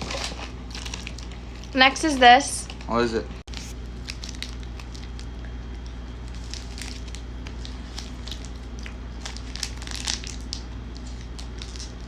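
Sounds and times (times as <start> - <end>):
plastic wrapper crinkling: 0.0 - 2.9, 3.5 - 12.0
steady low hum: 0.0 - 12.0.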